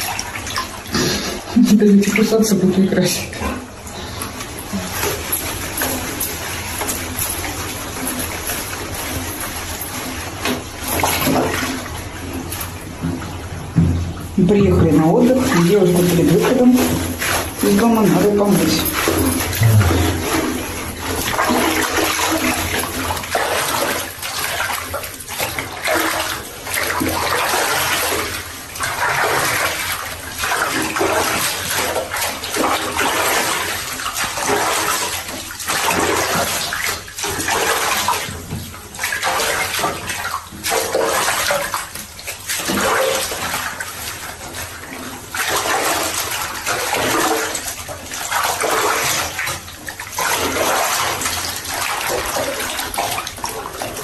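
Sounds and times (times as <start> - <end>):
bathwater sloshing and splashing: 0.0 - 54.0.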